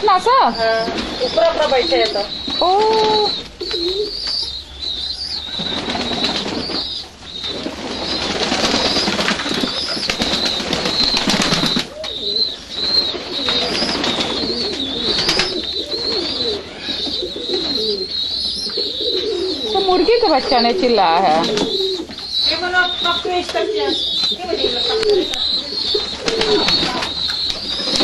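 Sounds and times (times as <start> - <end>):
doves cooing: 0.0 - 28.0
high-pitched chirping: 0.0 - 28.0
wings flapping: 0.1 - 28.0.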